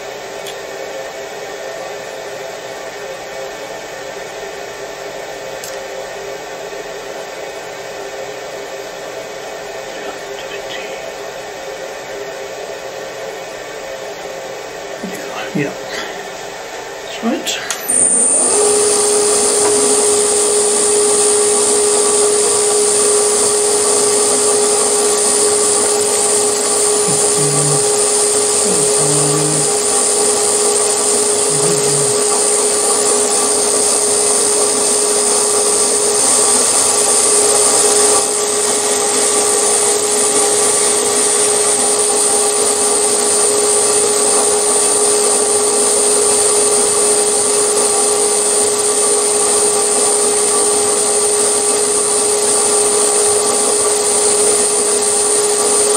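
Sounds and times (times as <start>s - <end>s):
milling machine spindle whine: 0.0s - 55.9s.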